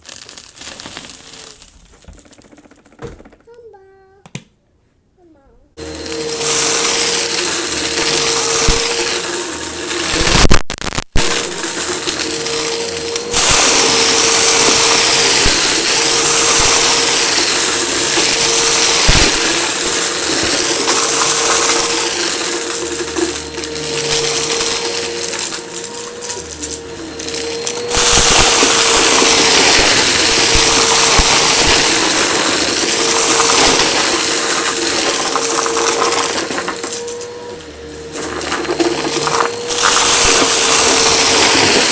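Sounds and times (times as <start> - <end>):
debris crackling and rattling: 0.0 - 3.6, 5.9 - 41.9
vacuum cleaner running: 5.8 - 41.9.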